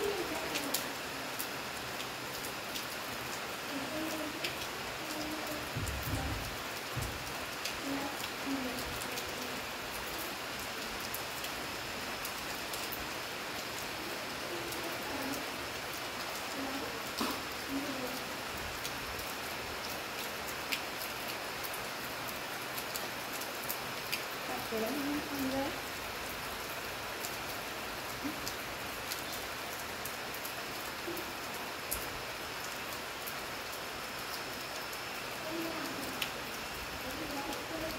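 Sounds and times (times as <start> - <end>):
rain falling on leaves: 0.0 - 37.9
raindrops ticking: 0.0 - 37.9.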